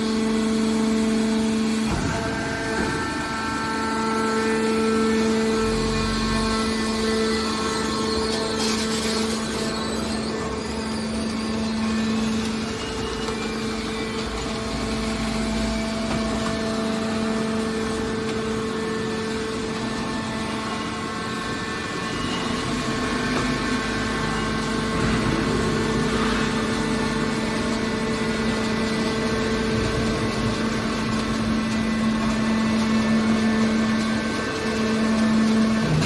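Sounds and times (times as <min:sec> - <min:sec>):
hydraulic pump motor humming: 0:00.0 - 0:36.0.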